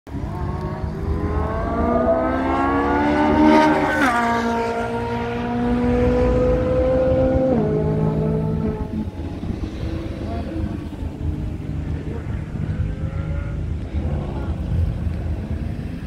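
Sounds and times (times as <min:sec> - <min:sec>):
car engine accelerating hard: 0:00.1 - 0:16.0.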